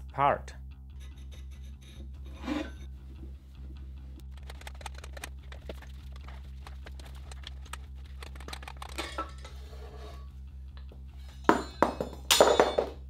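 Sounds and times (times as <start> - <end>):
background music with pulsing bass: 0.0 - 11.8.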